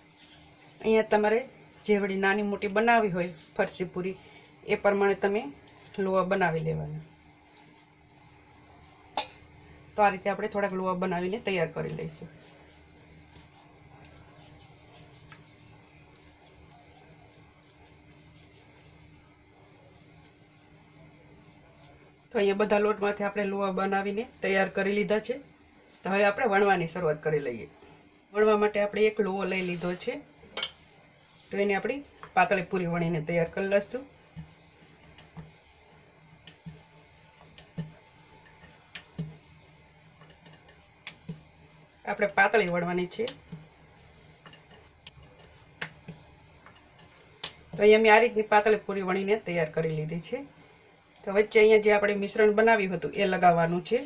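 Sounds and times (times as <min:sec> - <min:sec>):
hands rubbing dough: 0:00.0 - 0:27.2, 0:28.8 - 0:50.4, 0:51.4 - 0:54.0
steady low hum: 0:00.0 - 0:54.0.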